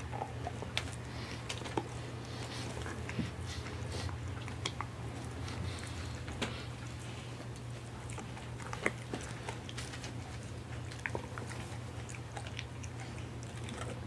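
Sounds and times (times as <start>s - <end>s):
dog gnawing a hard chew: 0.0s - 14.0s
steady low hum: 0.0s - 14.0s.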